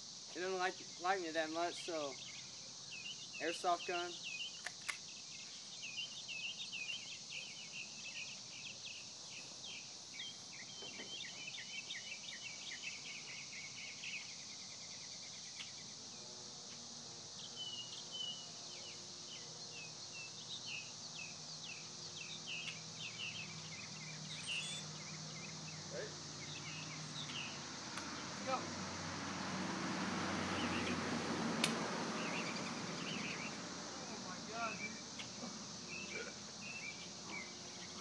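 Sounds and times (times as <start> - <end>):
small birds chirping: 0.0 - 38.0
steady high-pitched hiss: 0.0 - 38.0.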